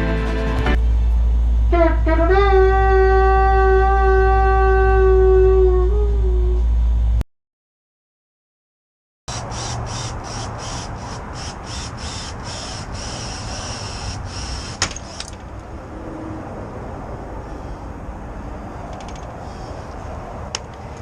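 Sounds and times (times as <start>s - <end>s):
motor vehicle rumble: 0.0s - 7.2s, 9.3s - 21.0s
road noise: 0.0s - 7.2s, 9.3s - 21.0s.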